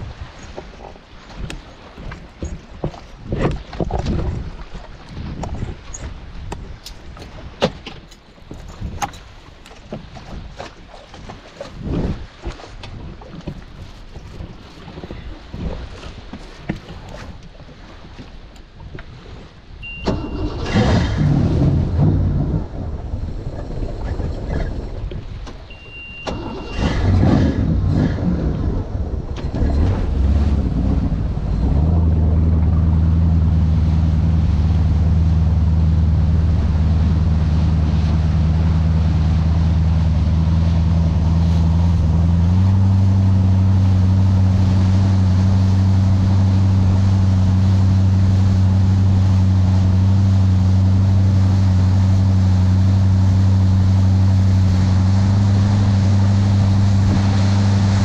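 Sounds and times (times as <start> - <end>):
boat engine droning: 0.0 - 58.0
wind and water rushing: 0.0 - 58.0.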